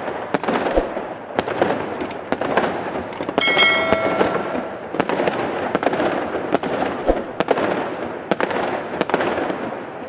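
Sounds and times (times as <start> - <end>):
firework bangs: 0.0 - 9.7.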